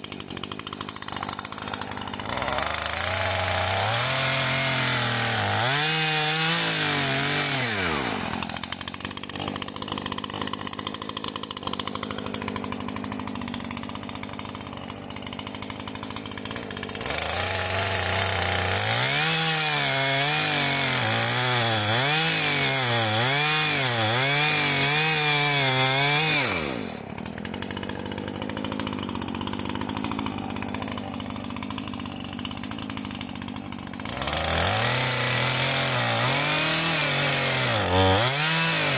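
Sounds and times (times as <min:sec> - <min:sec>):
two-stroke engine revving: 0:00.0 - 0:38.9.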